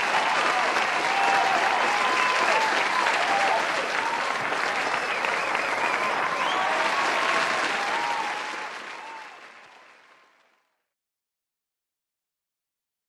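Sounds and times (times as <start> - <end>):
audience applause: 0.0 - 10.9.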